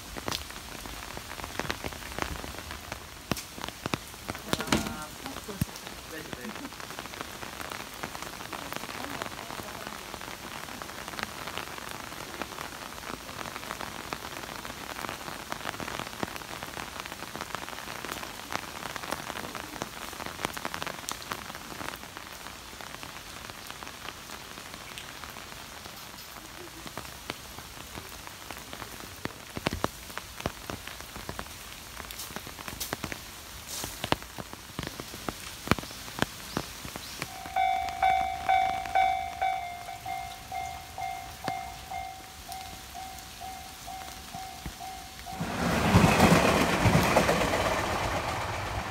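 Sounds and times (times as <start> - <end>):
raindrops tapping close by: 0.0 - 48.6
steady rain falling: 0.0 - 48.9.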